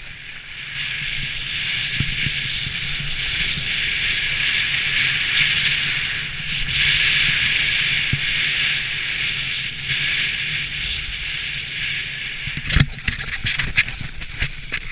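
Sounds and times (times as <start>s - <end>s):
sliding on packed snow: 1.7s - 14.9s.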